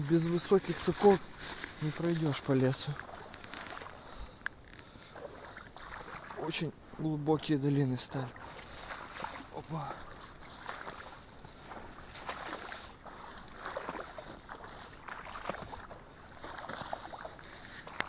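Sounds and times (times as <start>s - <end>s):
footsteps splashing through water: 0.0s - 18.0s.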